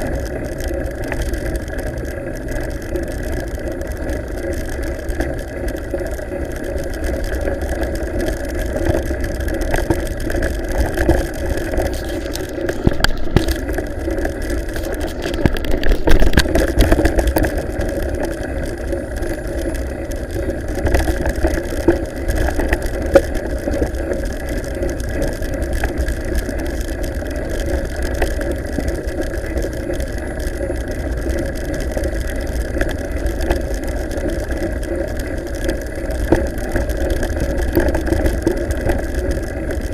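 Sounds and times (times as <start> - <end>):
bike rattling over cobblestones: 0.0 - 39.9.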